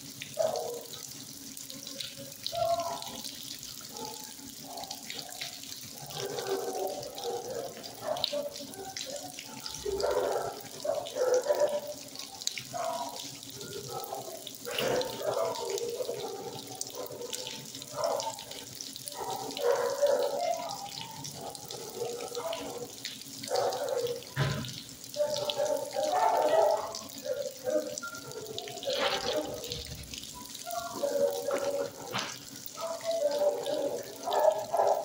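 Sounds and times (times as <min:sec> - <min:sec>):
water running: 0:00.0 - 0:35.0
kennel noise: 0:00.1 - 0:35.0.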